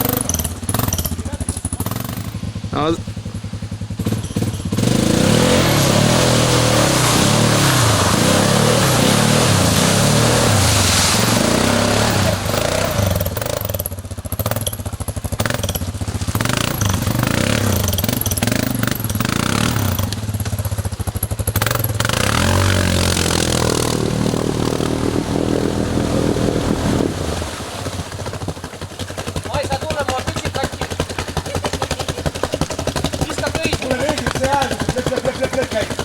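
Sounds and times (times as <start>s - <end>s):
atv engine revving and idling: 0.0s - 36.0s.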